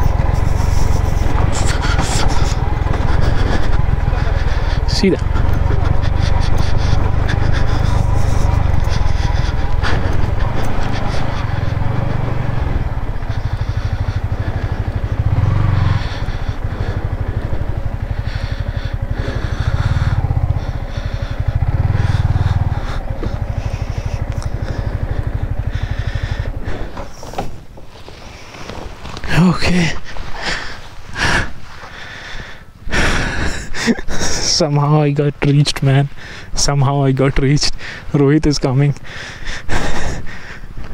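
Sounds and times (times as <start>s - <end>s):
motorcycle engine at low revs: 0.0s - 40.9s.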